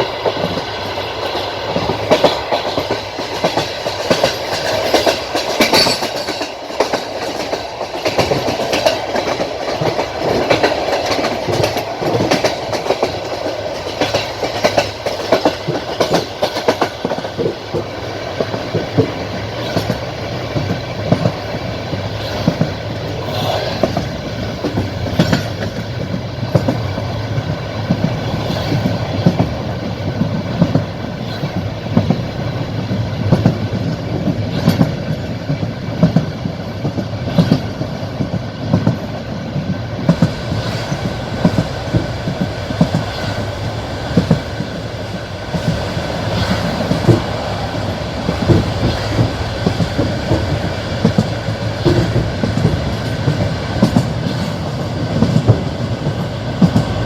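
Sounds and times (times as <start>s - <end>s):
train wheels clattering over rail joints: 0.0s - 57.0s.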